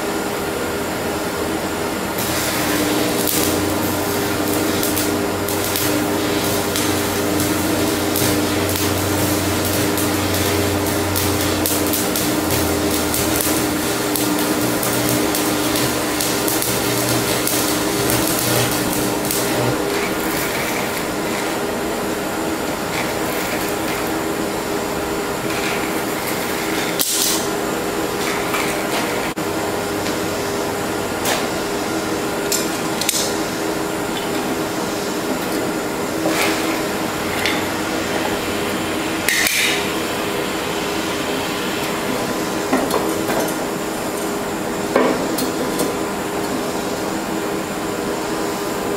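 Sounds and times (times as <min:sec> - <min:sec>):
propane torch hissing: 0:02.1 - 0:32.3, 0:33.0 - 0:47.4
welding arc crackling: 0:02.1 - 0:46.7.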